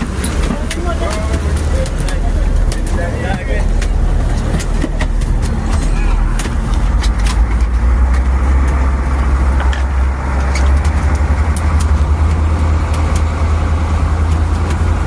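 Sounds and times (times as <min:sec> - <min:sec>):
boat engine droning: 0:00.0 - 0:15.0
rushing water noise: 0:00.0 - 0:15.0.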